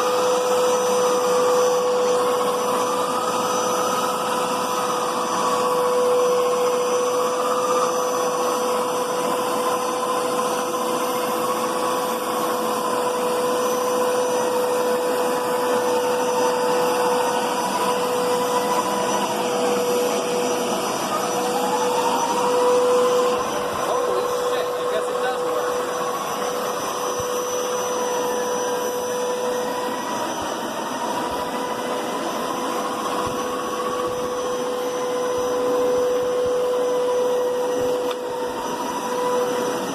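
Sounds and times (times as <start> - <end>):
carpet cleaner motor whine: 0.0 - 39.9.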